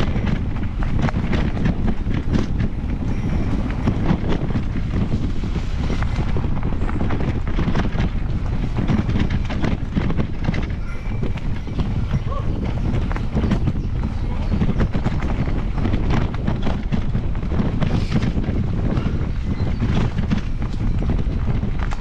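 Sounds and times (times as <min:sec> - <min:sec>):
bike rattling and clicking: 0:00.0 - 0:22.0
wind on microphone: 0:00.0 - 0:22.0.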